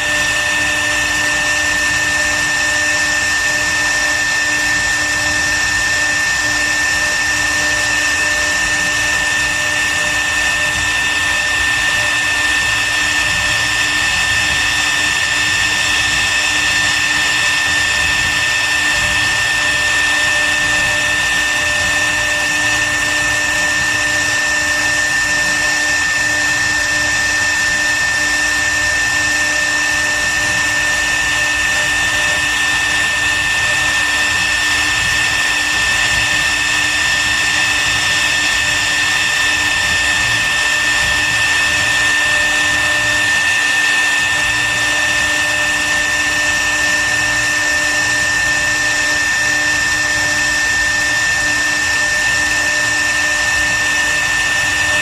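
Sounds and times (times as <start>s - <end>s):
router spindle whining: 0.0s - 55.0s.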